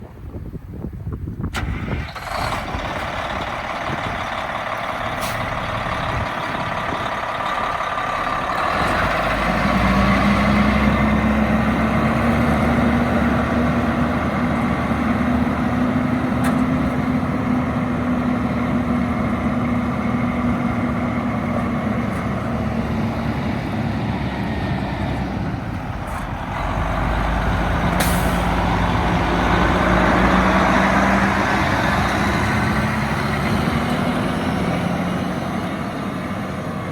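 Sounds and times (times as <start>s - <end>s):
truck diesel engine running: 1.6s - 36.9s.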